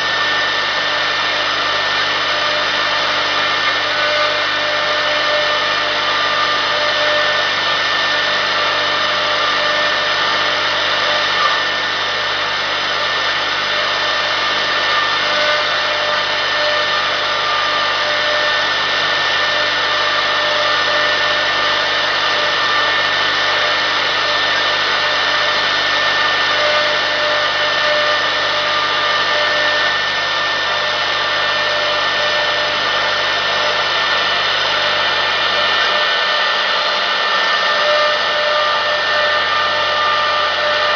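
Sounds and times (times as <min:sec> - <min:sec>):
router bit cutting wood: 0:00.0 - 0:40.9.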